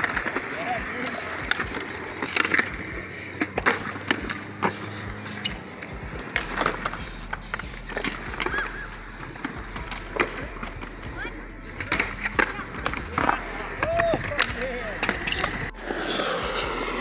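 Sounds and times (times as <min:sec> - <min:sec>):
skateboard wooden clacks: 0:00.0 - 0:11.1, 0:11.7 - 0:15.7
skateboard wheels rolling on concrete: 0:00.0 - 0:17.0.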